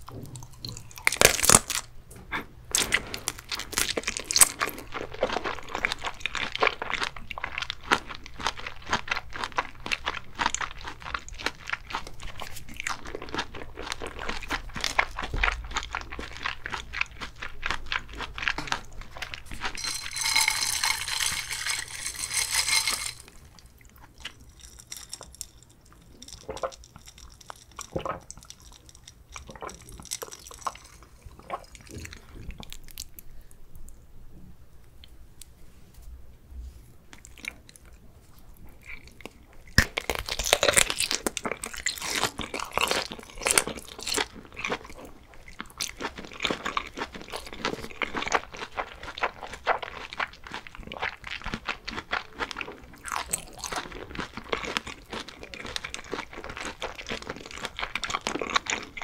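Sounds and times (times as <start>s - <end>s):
wet crackly chewing: 2.7s - 19.8s, 23.2s - 33.5s, 37.1s - 59.0s.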